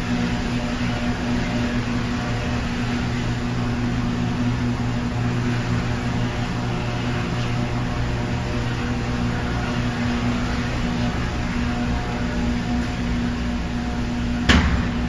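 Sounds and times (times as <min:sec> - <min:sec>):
electrical machinery hum: 0:00.0 - 0:15.0.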